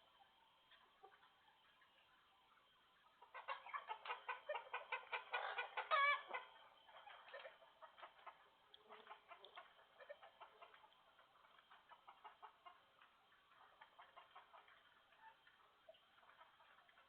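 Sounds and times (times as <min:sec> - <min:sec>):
chicken clucking and squawking: 0:00.2 - 0:17.0.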